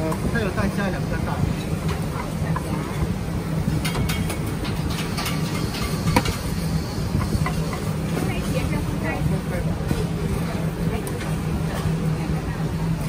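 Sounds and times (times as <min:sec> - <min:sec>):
kitchen equipment drone: 0:00.0 - 0:13.0.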